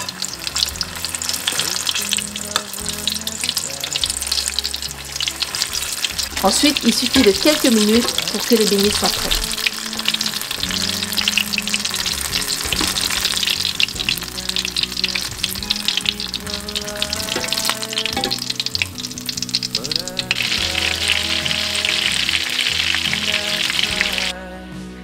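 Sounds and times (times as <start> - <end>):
oil sizzling and popping: 0.0 - 24.4.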